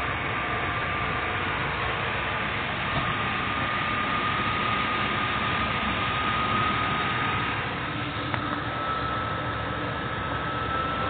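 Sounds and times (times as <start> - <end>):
thin constant whine: 0.0 - 11.0
truck engine idling: 0.0 - 11.0.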